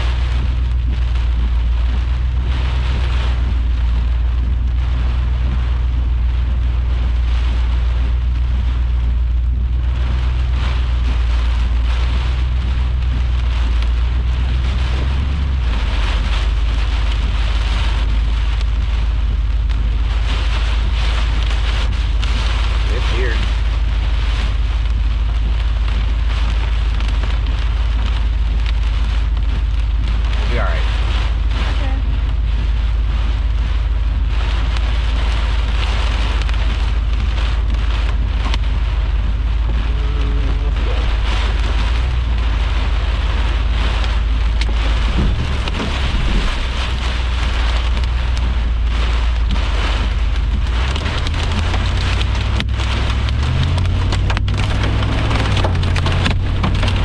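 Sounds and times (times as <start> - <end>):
deep rumble: 0.0 - 57.0
heavy rain falling: 0.0 - 57.0.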